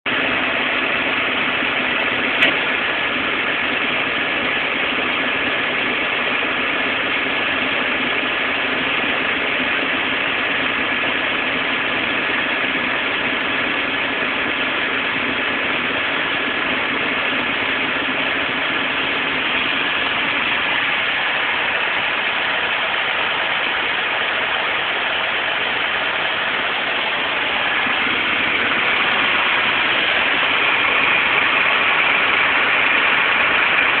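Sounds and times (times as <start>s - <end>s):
farm machinery engine running: 0.1s - 34.0s.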